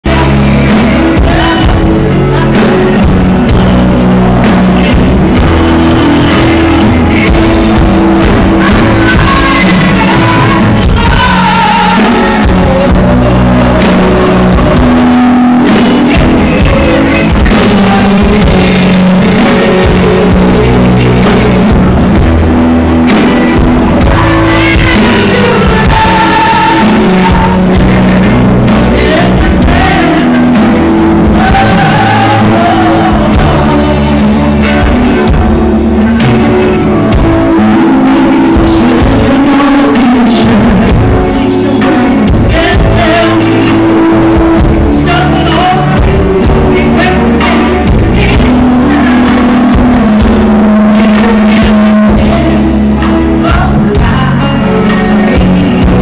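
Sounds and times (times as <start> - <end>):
drum kit: 0.0 - 56.0
electric guitar: 0.0 - 56.0
keyboard: 0.0 - 56.0
people singing into microphones: 0.0 - 56.0.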